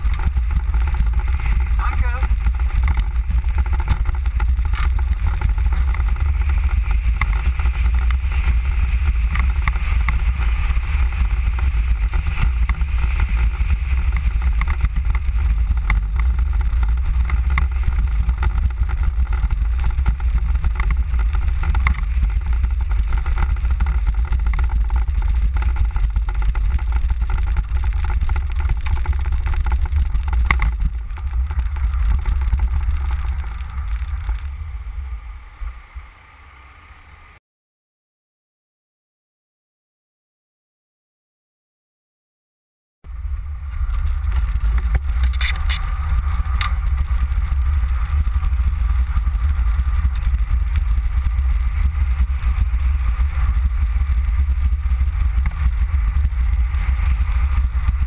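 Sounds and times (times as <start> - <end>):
small rattles and clicks: 0.0 - 34.6, 43.4 - 58.0
wheels rumbling and wind: 0.0 - 37.4, 43.0 - 58.0.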